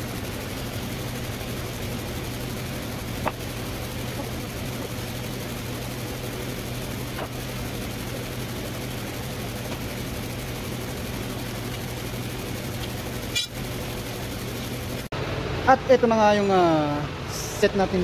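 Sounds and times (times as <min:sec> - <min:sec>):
low mechanical drone: 0:00.0 - 0:15.8.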